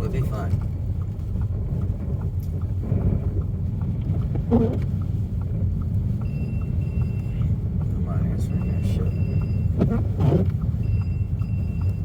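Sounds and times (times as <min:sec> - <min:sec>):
low rumble of tyres and engine: 0:00.0 - 0:12.0.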